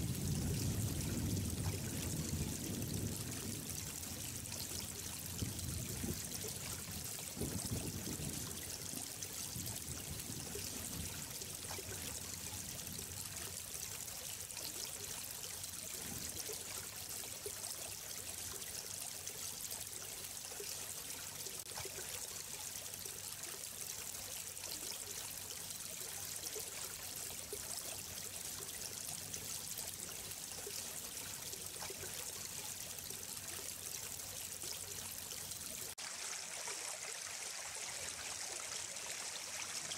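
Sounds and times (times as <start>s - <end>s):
running water rushing and trickling: 0.0s - 39.9s.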